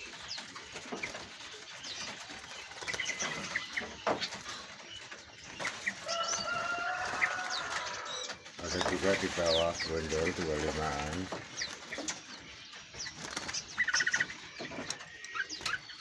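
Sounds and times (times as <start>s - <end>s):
birds fluttering: 0.0s - 16.0s
songbirds chirping: 0.0s - 16.0s.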